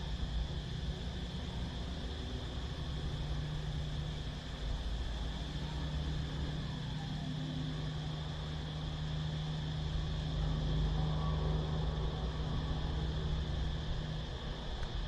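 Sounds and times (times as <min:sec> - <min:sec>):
high-pitched cicada drone: 0:00.0 - 0:15.0
low hum and rumble: 0:00.0 - 0:15.0.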